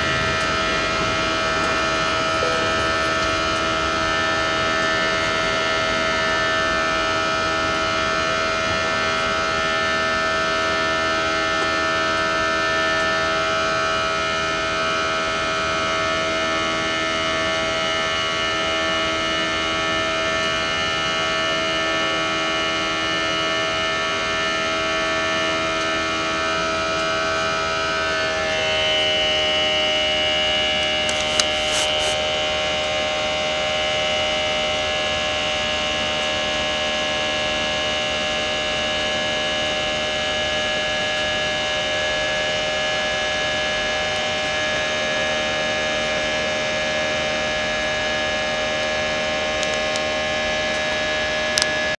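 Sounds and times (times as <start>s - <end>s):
jet engine cabin drone: 0.0s - 25.5s, 26.2s - 51.9s.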